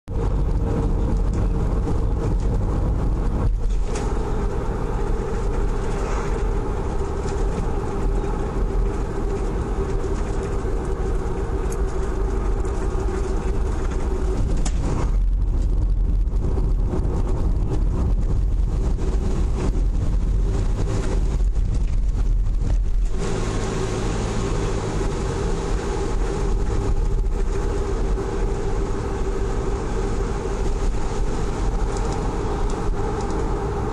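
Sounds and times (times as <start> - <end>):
car engine and road rumble: 0.0 - 33.9
constant low drone: 0.1 - 33.9.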